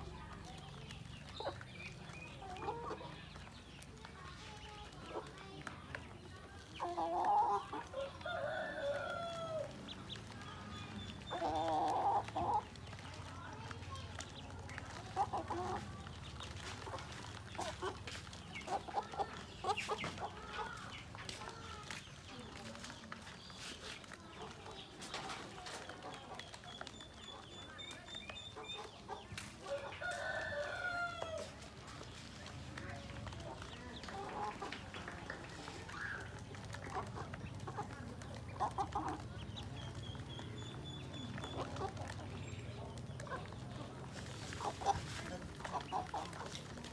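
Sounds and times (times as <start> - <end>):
chickens calling: 0.0 - 46.9
ducklings peeping: 0.1 - 8.2, 8.8 - 46.9.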